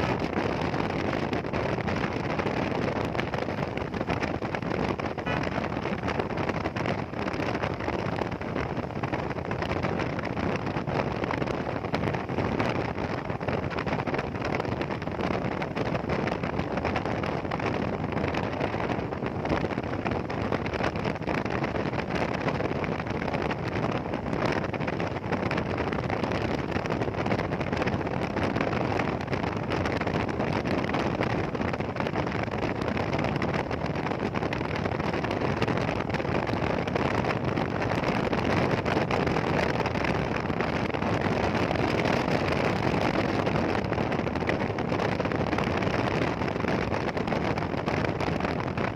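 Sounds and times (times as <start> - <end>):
motorcycle riding: 0.0 - 48.9
wind rushing over microphone: 0.0 - 48.9.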